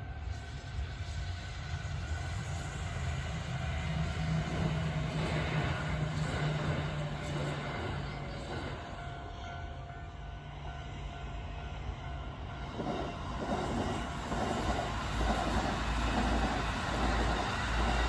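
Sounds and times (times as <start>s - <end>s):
electric train running past: 0.0s - 18.0s.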